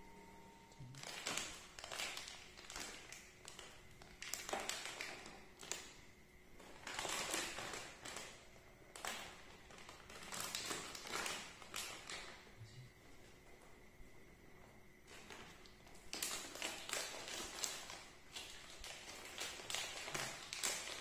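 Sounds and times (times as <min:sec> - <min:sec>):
plastic snack packet crinkling: 0:00.9 - 0:06.0, 0:06.6 - 0:12.4, 0:15.1 - 0:21.0.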